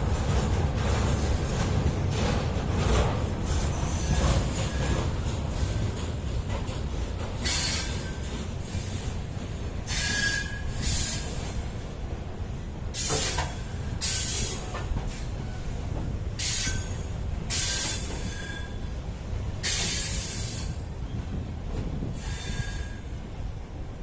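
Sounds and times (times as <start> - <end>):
wheels screeching against rail: 0.0 - 11.8, 12.9 - 15.8, 16.4 - 19.0, 19.6 - 23.3
train wheels rumbling on rails: 0.0 - 24.0.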